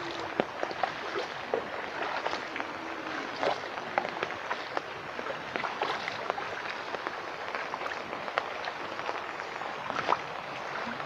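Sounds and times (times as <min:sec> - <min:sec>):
rain falling on puddles: 0:00.0 - 0:11.0
water splash: 0:00.0 - 0:11.0.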